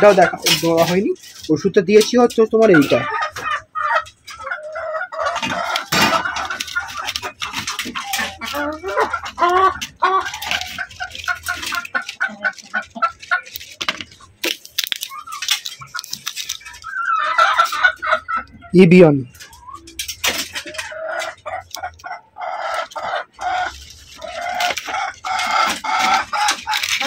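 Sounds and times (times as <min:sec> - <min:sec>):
clicks and rustles from handling: 0:00.0 - 0:03.0, 0:05.2 - 0:18.0, 0:19.3 - 0:22.1, 0:22.7 - 0:27.0
chickens clucking: 0:00.0 - 0:27.0.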